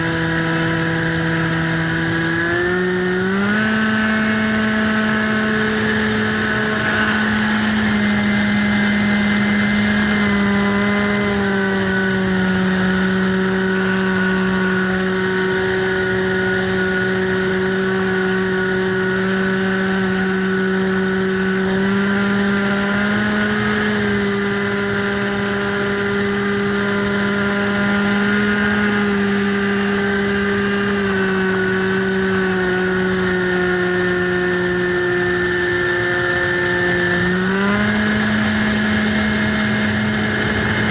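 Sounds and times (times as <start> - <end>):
model plane motor buzzing: 0.0 - 40.9.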